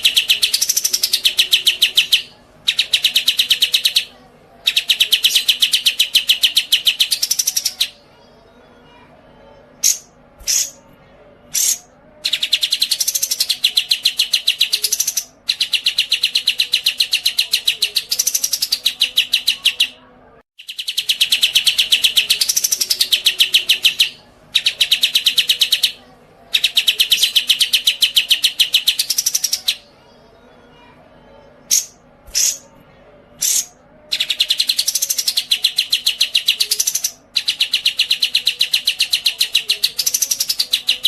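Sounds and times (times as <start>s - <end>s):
songbird chirps: 0.0s - 41.0s.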